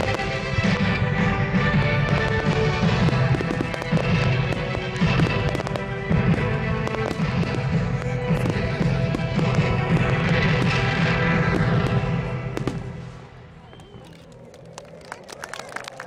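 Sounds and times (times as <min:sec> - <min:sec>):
music playing: 0:00.0 - 0:13.7
fireworks bangs and crackles: 0:00.0 - 0:14.7.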